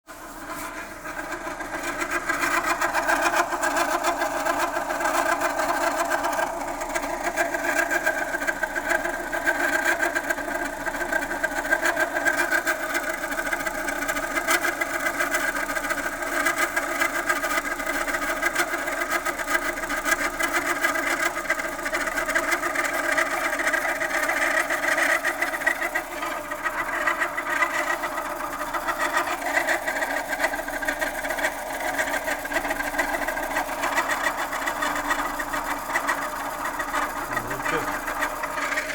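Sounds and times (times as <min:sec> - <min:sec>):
engine running with ticking clatter: 0:00.1 - 0:38.9.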